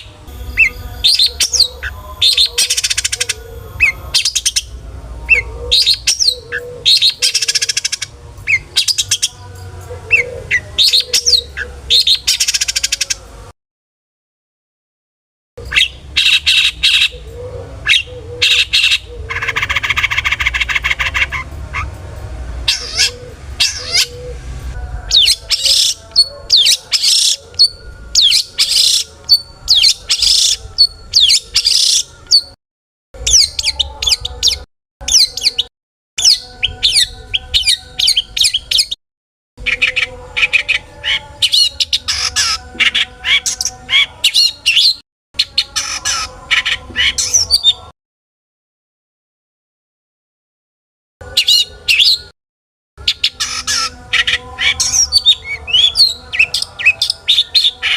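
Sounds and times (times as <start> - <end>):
bird singing with chirps and squawks: 0.0 - 13.4, 15.6 - 32.6, 33.2 - 39.0, 39.6 - 47.9, 51.2 - 52.3, 53.0 - 57.9.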